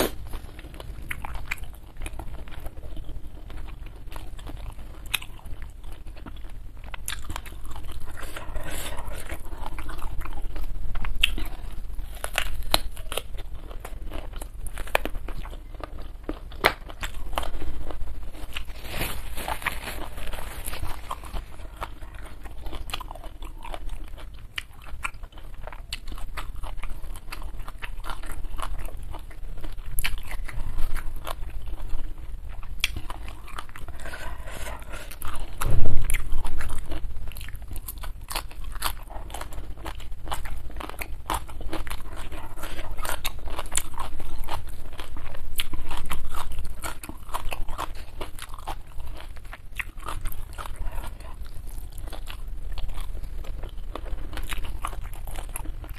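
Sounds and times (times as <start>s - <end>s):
chewing and crunching food: 0.0s - 55.9s.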